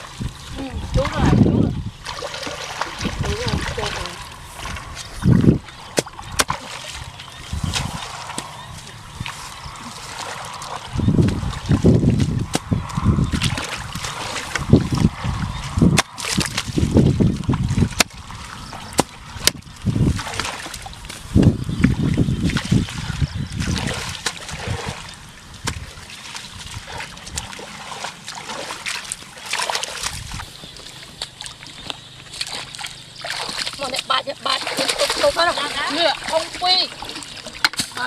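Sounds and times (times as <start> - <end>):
shallow water splashing: 0.0 - 38.0.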